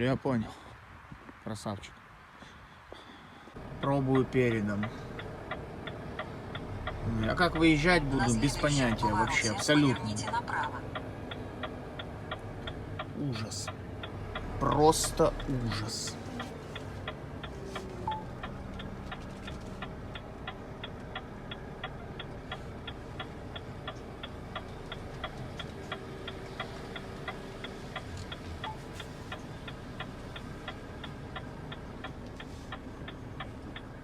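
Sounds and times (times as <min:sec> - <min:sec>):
truck engine idling: 0:03.5 - 0:34.0
indicator relay ticking: 0:03.8 - 0:34.0.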